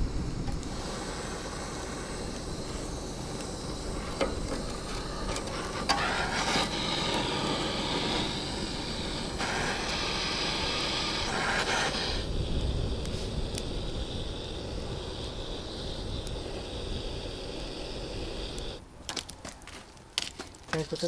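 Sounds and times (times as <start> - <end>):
gas torch flame hissing: 0.0 - 18.8
gas torch igniter click: 0.4 - 14.6, 15.2 - 18.8.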